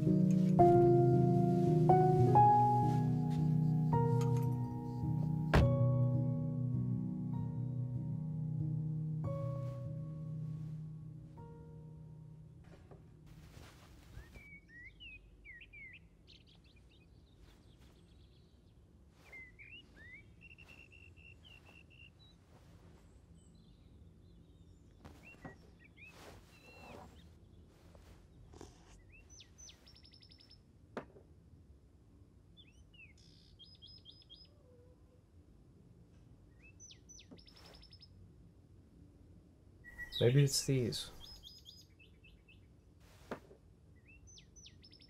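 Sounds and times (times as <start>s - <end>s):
faint birdsong chirps and trills: 0.0s - 45.0s.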